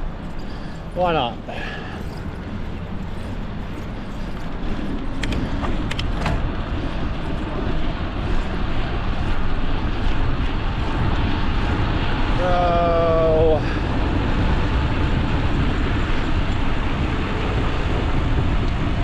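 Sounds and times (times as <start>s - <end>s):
tyre road noise: 0.0s - 19.0s
wind rushing over microphone: 0.0s - 19.0s.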